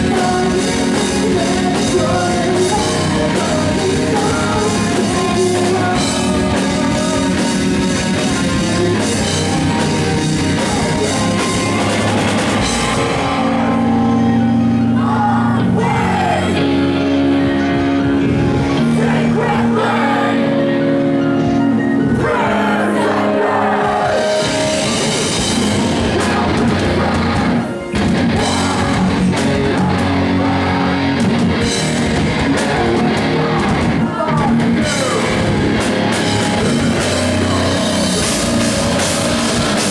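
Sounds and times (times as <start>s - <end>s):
drum kit: 0.0s - 15.2s, 21.5s - 39.9s
distorted guitars: 0.0s - 39.9s
loud live rock band: 0.0s - 39.9s.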